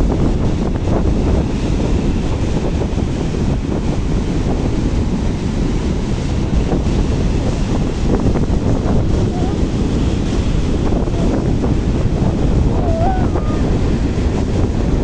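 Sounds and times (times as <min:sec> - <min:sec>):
surf breaking on shore: 0:00.0 - 0:15.0
wind buffeting microphone: 0:00.0 - 0:15.0.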